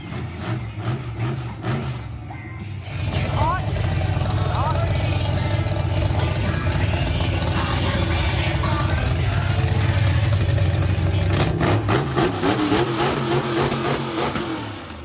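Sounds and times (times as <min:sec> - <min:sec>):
truck engine running under load: 0:00.0 - 0:15.0.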